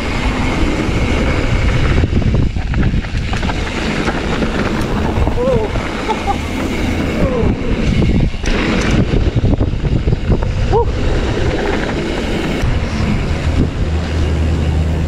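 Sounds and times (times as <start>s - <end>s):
bike rattling over rough ground: 0.0s - 15.0s
wind buffeting microphone: 0.0s - 15.0s.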